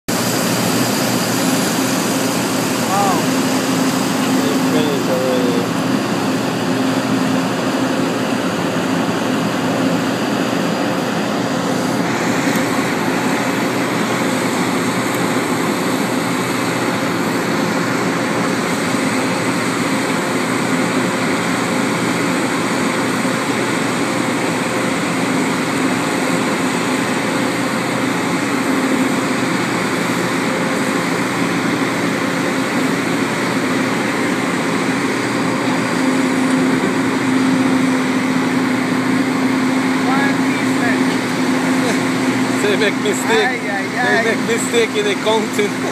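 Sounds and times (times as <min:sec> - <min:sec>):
combine harvesters droning: 0:00.0 - 0:45.9.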